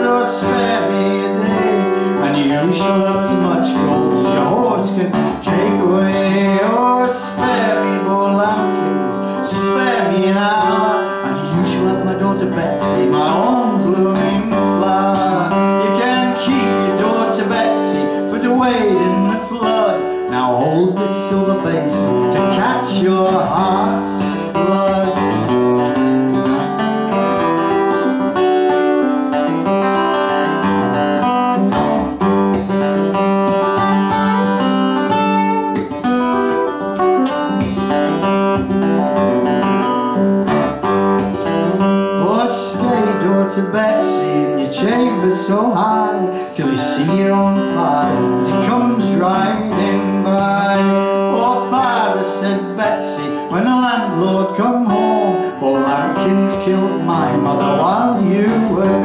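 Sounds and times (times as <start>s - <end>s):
acoustic guitar playing folk ballad: 0.0s - 59.0s.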